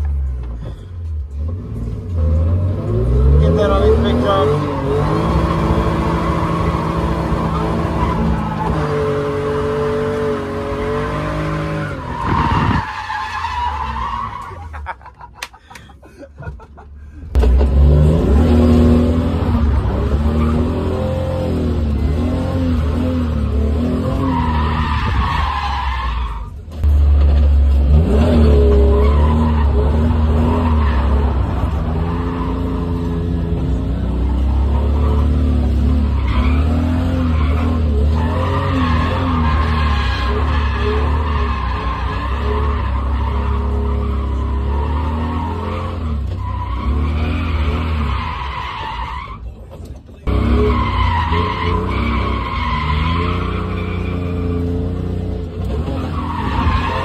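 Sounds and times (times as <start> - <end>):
car engine revving: 1.3 - 14.3, 17.3 - 26.0, 26.8 - 48.4, 50.2 - 57.0.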